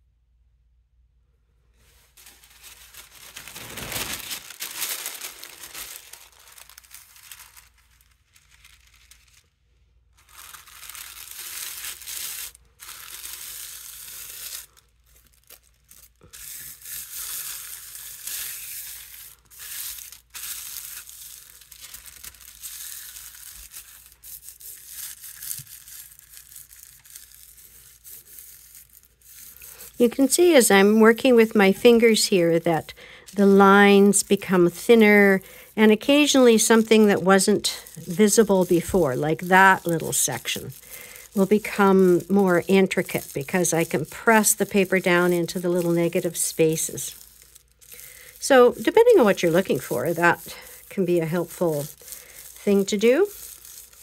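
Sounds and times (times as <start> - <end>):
tissue paper rustling and crinkling: 1.8 - 54.0.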